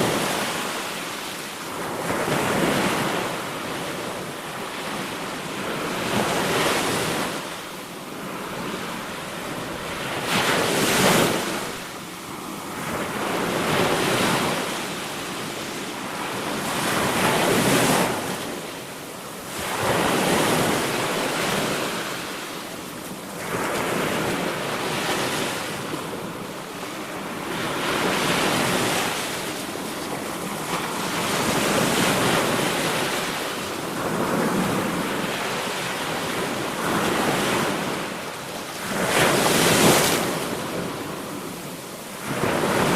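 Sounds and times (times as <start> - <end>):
sea waves surging: 0.0 - 42.9.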